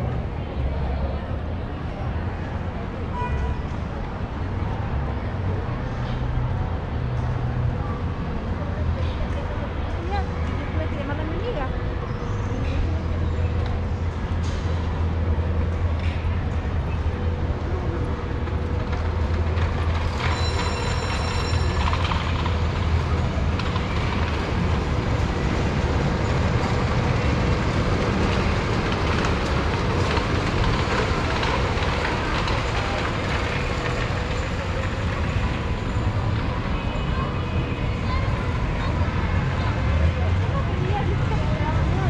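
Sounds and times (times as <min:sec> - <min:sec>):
broad noise wash: 0:00.0 - 0:42.0
low city rumble: 0:00.0 - 0:42.0.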